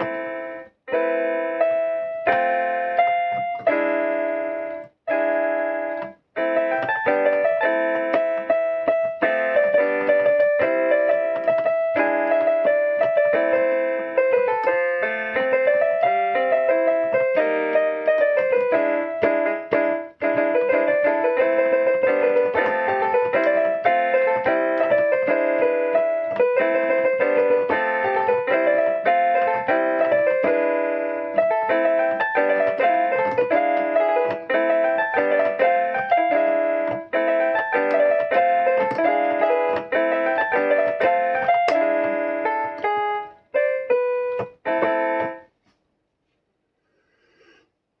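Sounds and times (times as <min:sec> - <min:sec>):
mini keyboard playing pop melody: 0:00.0 - 0:45.6.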